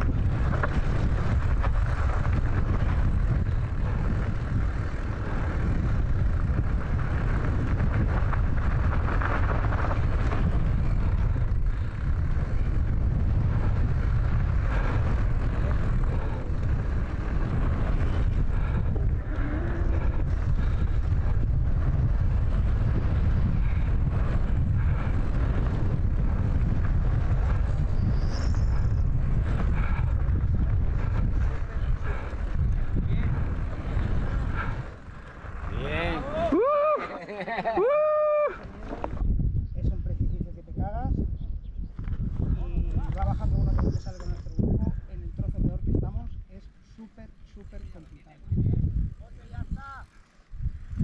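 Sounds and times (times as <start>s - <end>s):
wind buffeting microphone: 0.0s - 37.0s, 37.7s - 51.0s.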